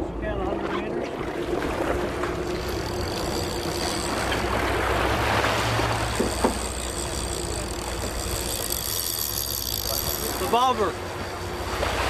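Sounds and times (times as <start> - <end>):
boat engine humming: 0.0 - 12.0
water noise: 0.0 - 12.0
wind: 0.0 - 12.0.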